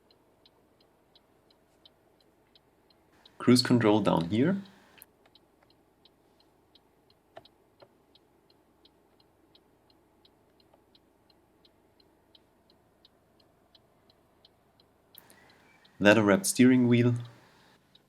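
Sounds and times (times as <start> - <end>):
turn signal ticking: 0.0 - 18.0.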